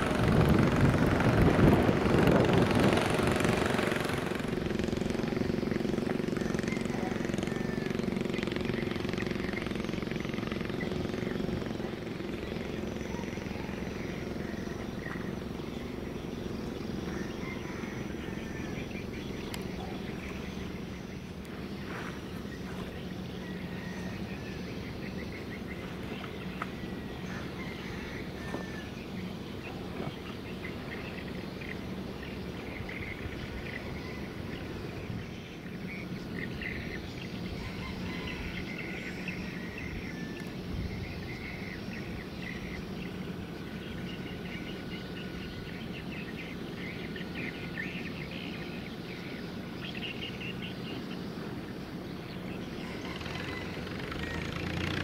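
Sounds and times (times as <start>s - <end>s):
ship engine rumble and hum: 0.0s - 55.0s.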